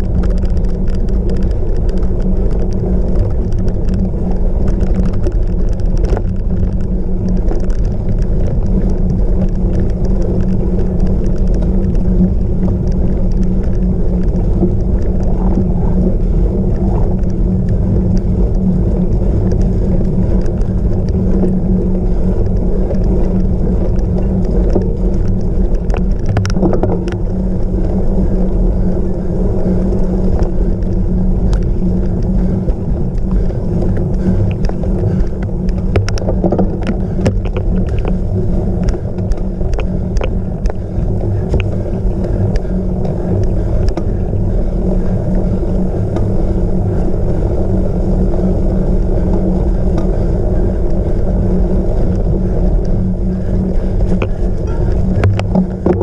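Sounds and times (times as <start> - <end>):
bike knocks and rattles: 0.0 - 28.4, 30.2 - 44.2, 53.4 - 56.0
tyres rumbling on rough ground: 0.0 - 56.0
wind rushing over microphone: 0.0 - 56.0.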